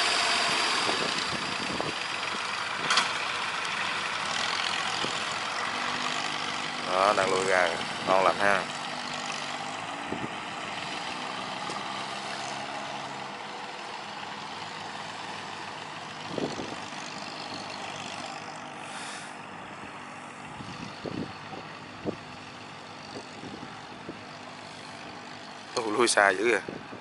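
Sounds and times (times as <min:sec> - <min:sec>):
boat diesel engine running: 0:00.0 - 0:27.0.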